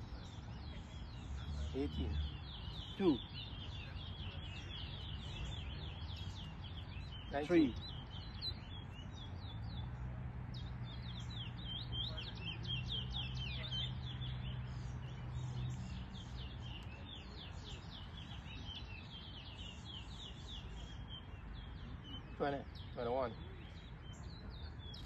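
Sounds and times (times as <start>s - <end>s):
finch singing high chirps: 0.0s - 25.0s.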